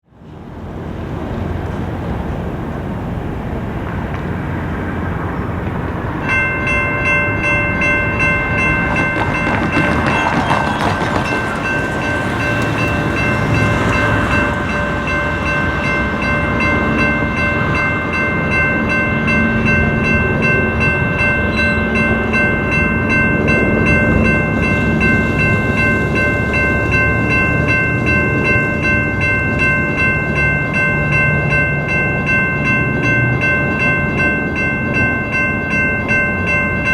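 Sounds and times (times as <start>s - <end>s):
traffic and train rumble: 0.0s - 36.9s
railroad crossing bells ringing: 0.6s - 36.9s.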